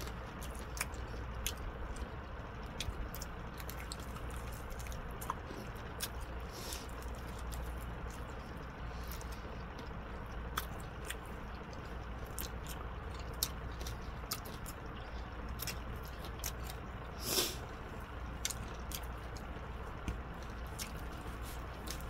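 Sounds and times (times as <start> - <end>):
close-up chewing: 0.0 - 22.0
steady low hum: 0.0 - 22.0.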